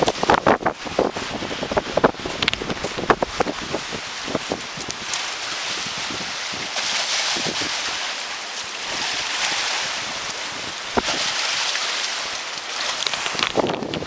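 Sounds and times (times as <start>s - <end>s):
waves rushing: 0.0s - 14.0s
wind buffeting microphone: 0.0s - 14.0s.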